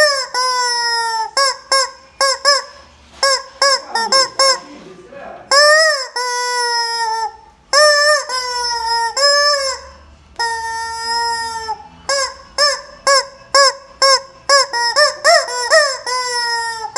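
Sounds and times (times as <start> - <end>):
rubber chicken toy squawking: 0.0 - 4.8, 5.5 - 16.9.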